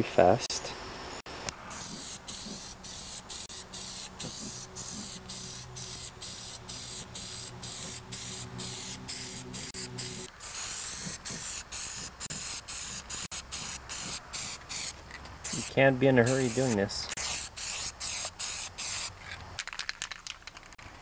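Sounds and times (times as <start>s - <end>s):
spray paint can hissing: 1.7s - 20.6s.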